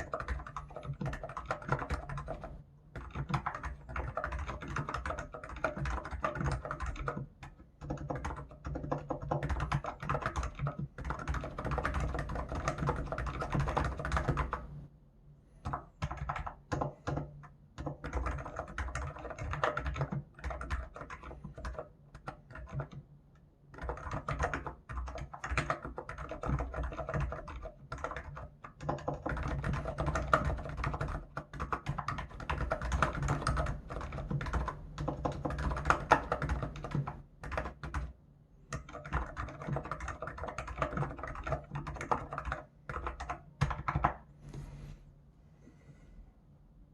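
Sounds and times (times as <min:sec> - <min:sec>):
keyboard typing: 0:00.0 - 0:14.8, 0:15.6 - 0:23.0, 0:23.7 - 0:44.3.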